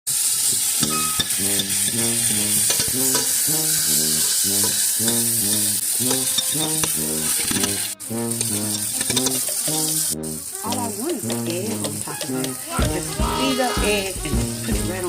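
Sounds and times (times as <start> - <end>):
food sizzling in a pan: 0.1 - 15.0.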